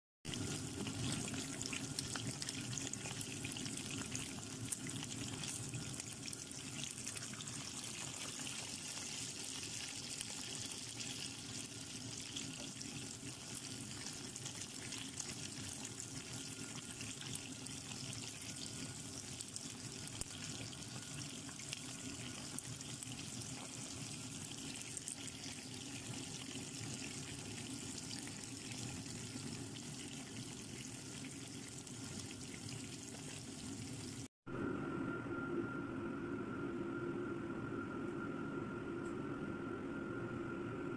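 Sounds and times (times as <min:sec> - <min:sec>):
chicken deep-frying in oil: 0:00.2 - 0:34.3.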